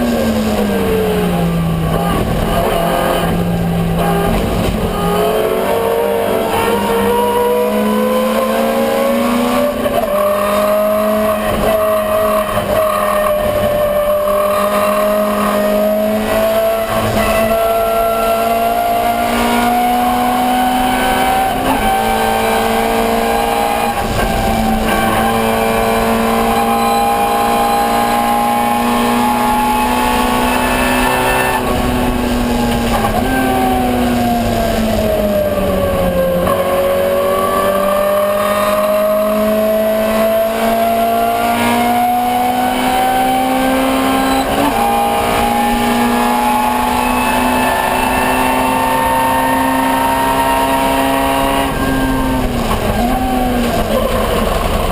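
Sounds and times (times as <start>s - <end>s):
car engine racing at high revs: 0.0s - 54.9s.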